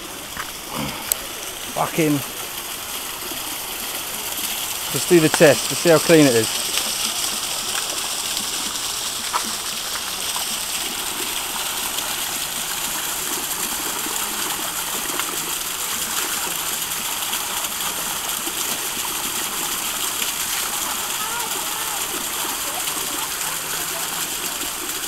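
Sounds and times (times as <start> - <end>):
rush of spring water: 0.0 - 25.0.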